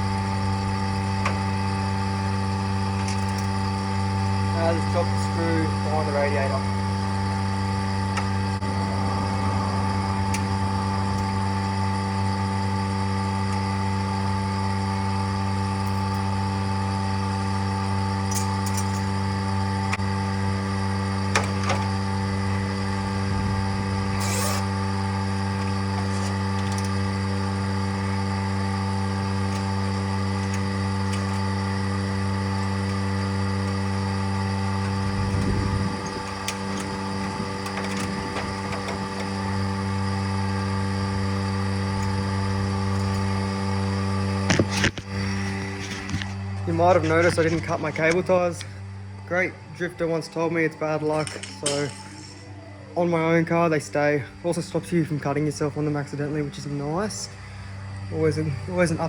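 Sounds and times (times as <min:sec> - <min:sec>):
vacuum pump motor hum: 0:00.0 - 0:59.0.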